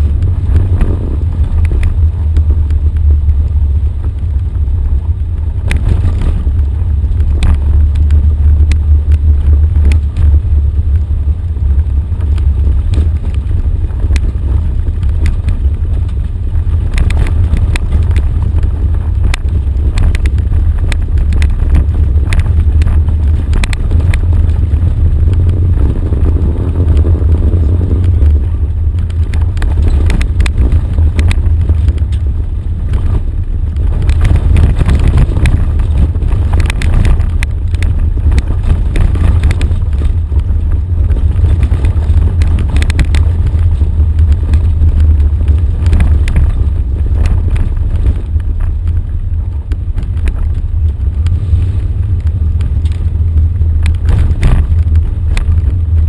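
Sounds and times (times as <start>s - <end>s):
vehicle engine rumble: 0.0s - 56.0s.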